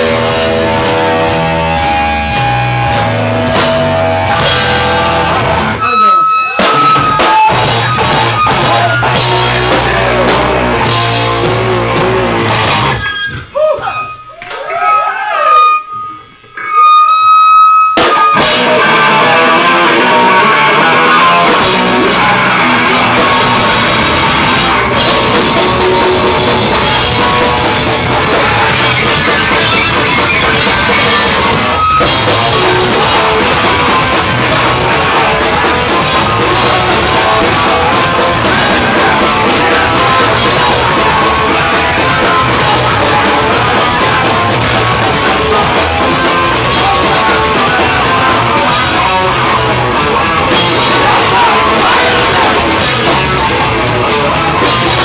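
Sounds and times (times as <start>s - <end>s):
live rock band playing: 0.0s - 14.2s, 15.6s - 55.0s.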